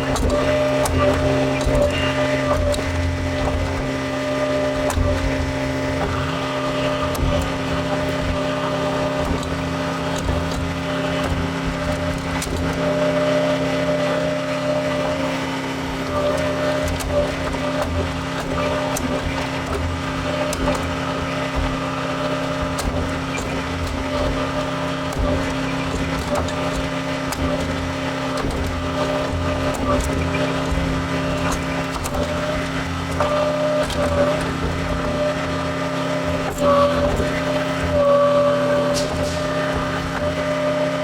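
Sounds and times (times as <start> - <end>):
diesel engine running: 0.0 - 41.0
high whine: 0.0 - 41.0.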